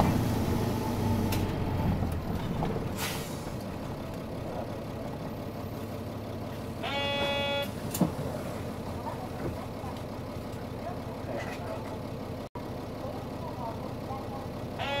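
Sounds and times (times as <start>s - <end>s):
bus diesel engine: 0.0s - 15.0s.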